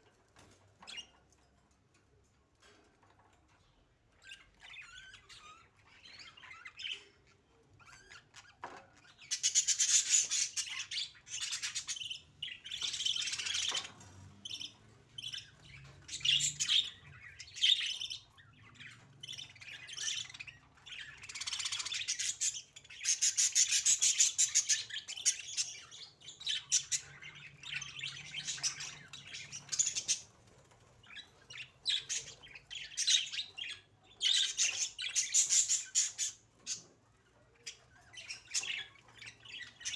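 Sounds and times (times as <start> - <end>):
budgerigars chattering and chirping: 4.2 - 39.9.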